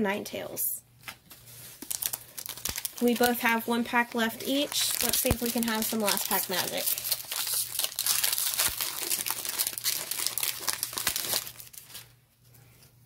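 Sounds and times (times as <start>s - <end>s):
foil wrapper crinkling: 1.6s - 12.1s.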